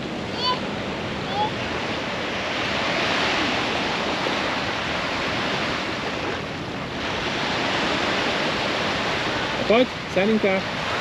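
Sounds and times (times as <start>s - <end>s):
waves breaking on sandy beach: 0.0s - 11.0s.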